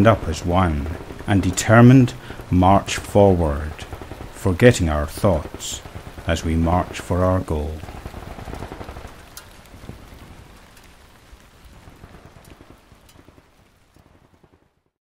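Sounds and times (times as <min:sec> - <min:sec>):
sharp raindrop hits: 0:00.0 - 0:14.9
steady rain falling: 0:00.0 - 0:15.0.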